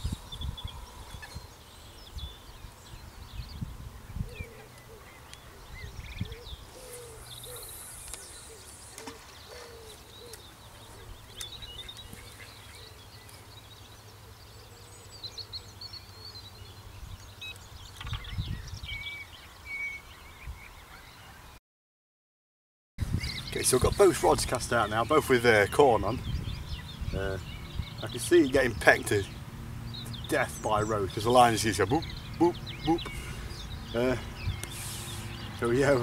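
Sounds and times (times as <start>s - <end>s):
small birds chirping: 0.0s - 21.6s, 23.0s - 36.0s.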